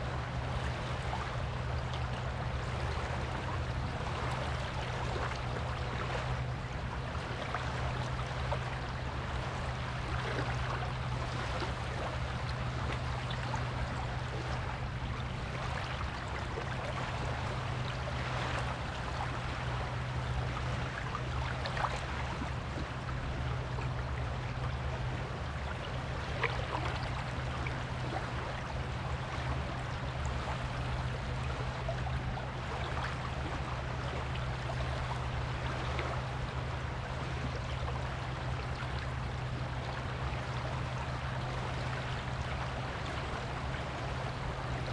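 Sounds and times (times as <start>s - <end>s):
waves washing on a beach: 0.0s - 44.9s.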